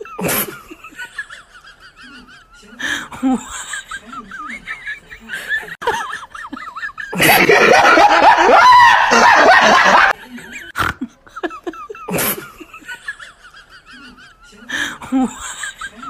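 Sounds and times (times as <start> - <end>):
people laughing loudly: 0.0 - 16.0.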